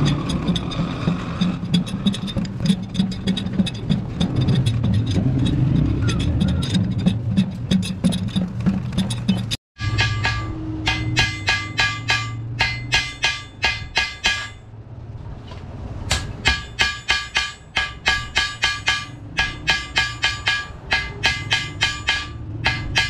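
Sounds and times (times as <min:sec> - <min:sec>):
hammer beating steel sheet: 0:00.0 - 0:14.7, 0:16.0 - 0:23.0.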